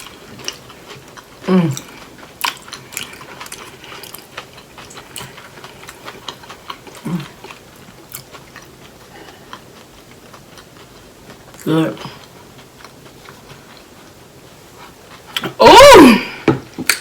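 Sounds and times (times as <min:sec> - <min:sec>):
crunching and chewing onion rings: 0:00.0 - 0:15.6.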